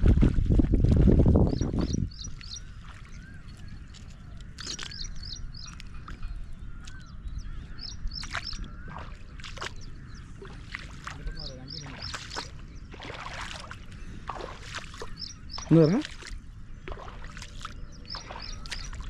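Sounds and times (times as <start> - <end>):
low rumble of wind or water: 0.0 - 19.0.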